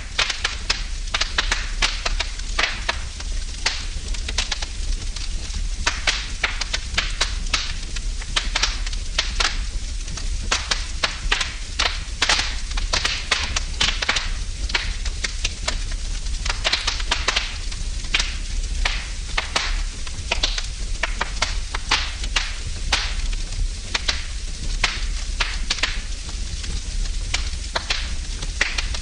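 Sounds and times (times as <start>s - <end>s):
low fire rumble: 0.0s - 29.0s
wood fire crackling: 0.0s - 29.0s.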